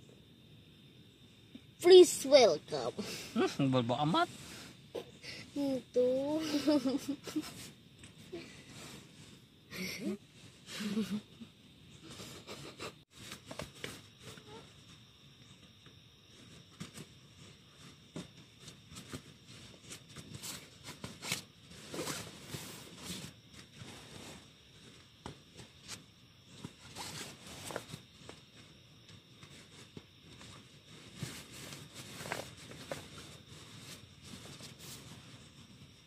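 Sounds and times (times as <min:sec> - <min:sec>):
faint steady hiss: 0:00.0 - 0:36.0
rustling and scraping: 0:04.2 - 0:09.5, 0:12.0 - 0:36.0.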